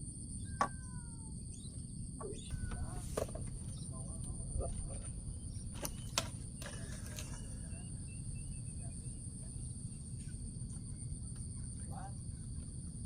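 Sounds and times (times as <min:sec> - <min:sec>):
crickets chirring: 0:00.0 - 0:13.0
low steady rumble: 0:00.0 - 0:13.0.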